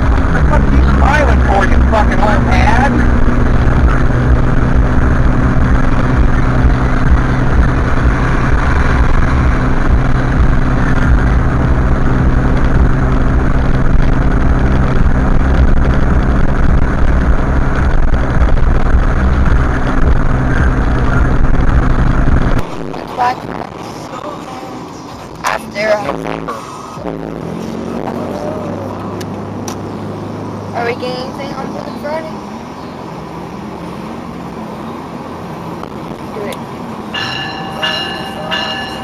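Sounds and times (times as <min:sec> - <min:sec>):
road noise: 0:00.0 - 0:39.0
vehicle engine drone: 0:00.0 - 0:39.0.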